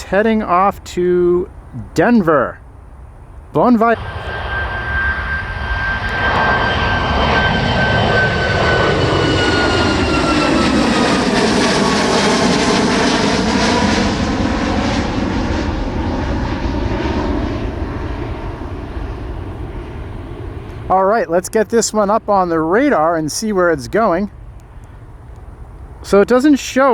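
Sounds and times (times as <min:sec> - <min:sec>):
jet airliner engines roaring: 0:00.0 - 0:26.9.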